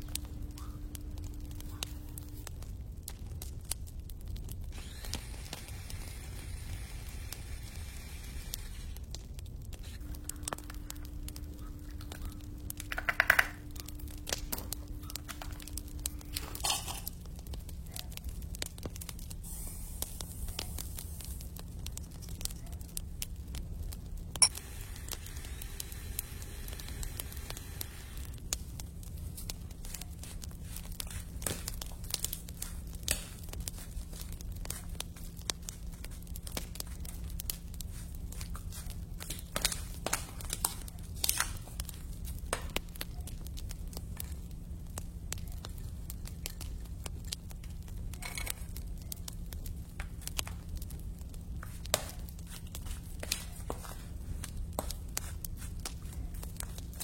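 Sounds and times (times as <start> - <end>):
irregular clicks and crackles: 0.0 - 57.0
steady low hum: 0.0 - 57.0.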